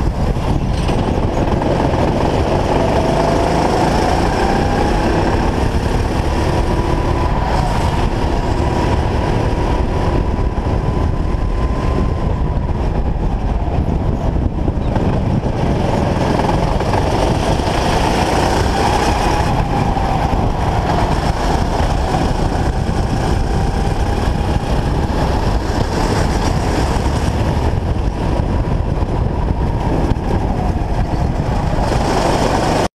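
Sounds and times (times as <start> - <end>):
kart engine running: 0.0 - 32.9
rushing wind noise: 0.0 - 32.9.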